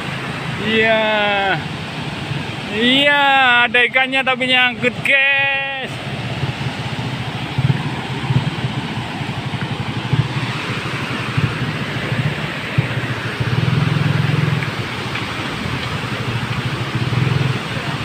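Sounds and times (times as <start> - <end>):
low water rumble: 0.0 - 18.0
white water rushing: 0.0 - 18.0.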